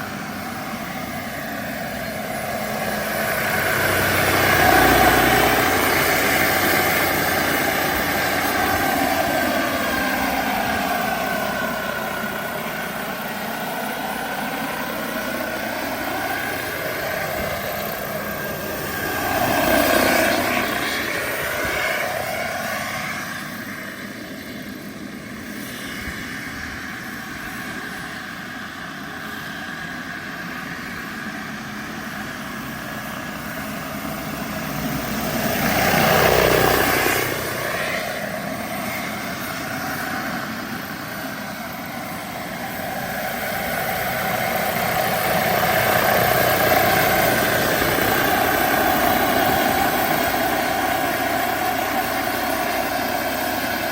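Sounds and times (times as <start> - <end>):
model helicopter turbine and rotor: 0.0 - 53.9.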